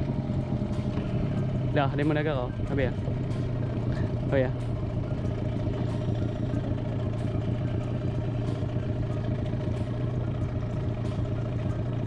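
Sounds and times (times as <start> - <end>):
outboard motor drone: 0.0 - 12.0.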